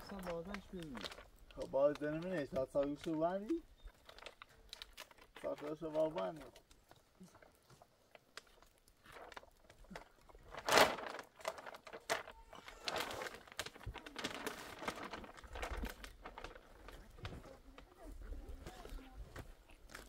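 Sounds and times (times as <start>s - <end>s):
plastic sheeting crinkling: 0.0s - 20.0s.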